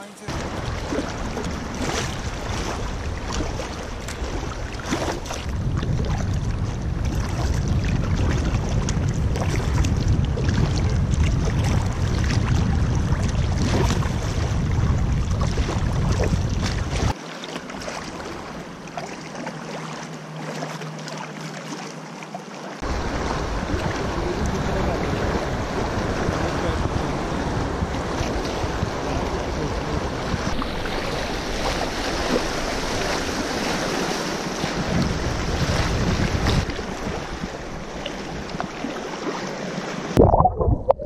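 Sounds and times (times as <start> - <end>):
river water rushing and splashing: 0.0 - 8.7, 15.3 - 40.8
wind buffeting microphone: 0.2 - 17.2, 22.8 - 38.8.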